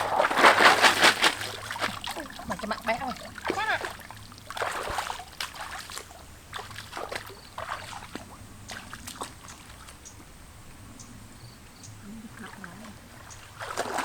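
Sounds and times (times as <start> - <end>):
water sloshing and splashing: 0.0 - 10.3, 12.2 - 14.0
faint low hum: 0.0 - 14.0.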